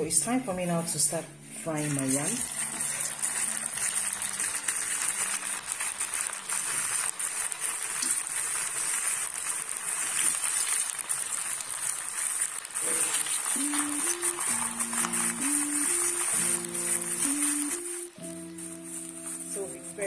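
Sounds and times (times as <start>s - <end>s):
food sizzling in hot oil: 0.8s - 20.0s.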